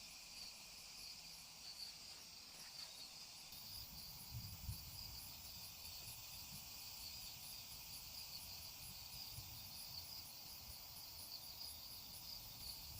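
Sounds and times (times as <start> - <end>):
insects chirping: 0.0 - 12.9.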